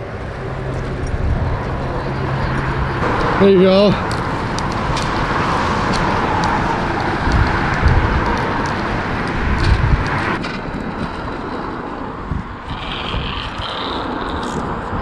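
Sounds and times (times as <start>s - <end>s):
road traffic: 0.0s - 15.0s
wind: 0.0s - 15.0s
wind buffeting microphone: 0.0s - 15.0s.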